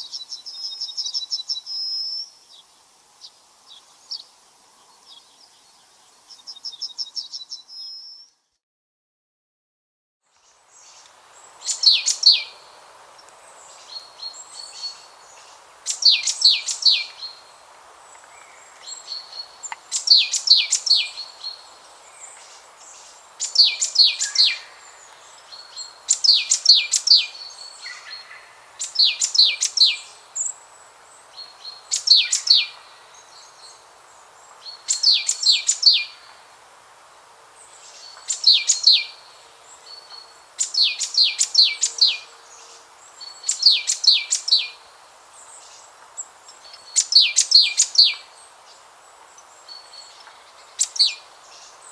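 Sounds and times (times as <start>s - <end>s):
faint background hiss: 0.0s - 8.6s, 10.3s - 51.9s
songbird singing: 0.0s - 8.6s, 10.3s - 51.9s.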